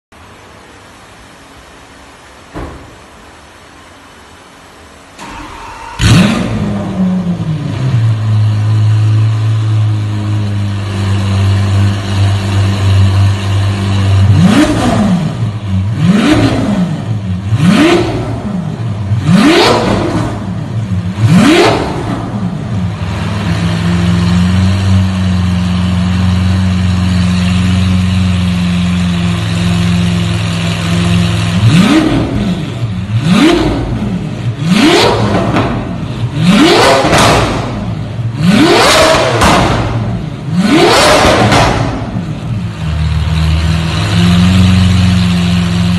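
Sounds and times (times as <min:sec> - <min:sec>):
car engine revving and idling: 0:00.3 - 0:45.9.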